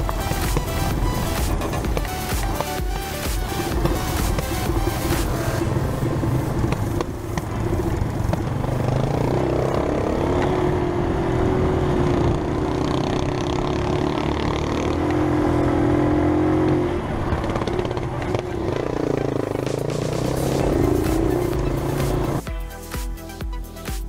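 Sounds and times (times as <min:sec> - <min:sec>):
motorcycle engine at low revs: 0:00.0 - 0:22.5.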